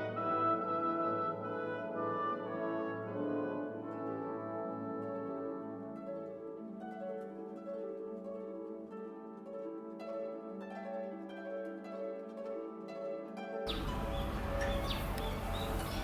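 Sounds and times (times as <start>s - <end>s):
plucked harp-like melody: 0.0s - 16.0s.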